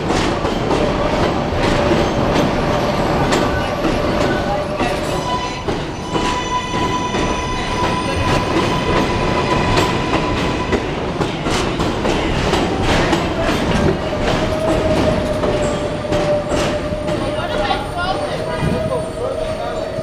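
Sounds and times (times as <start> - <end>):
subway train rumbling past: 0.0 - 20.0
train whine: 0.0 - 20.0.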